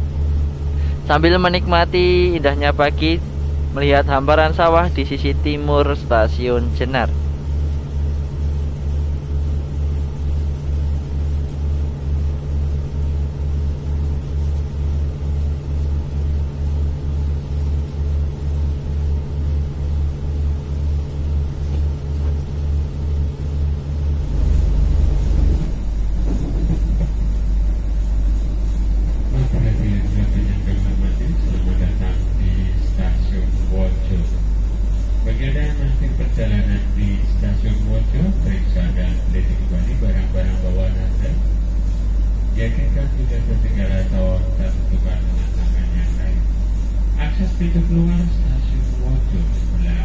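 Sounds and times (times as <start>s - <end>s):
train running rumble: 0.0s - 8.0s, 16.6s - 50.0s.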